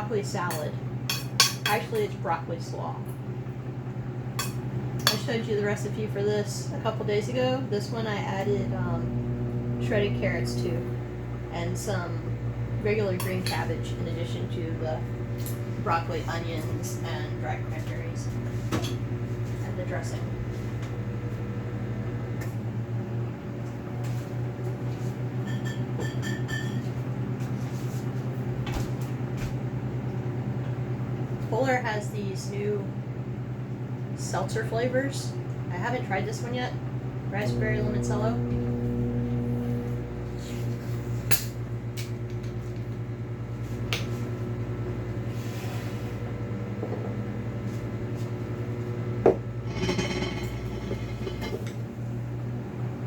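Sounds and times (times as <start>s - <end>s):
microwave oven pulsing hum: 0.0s - 53.0s.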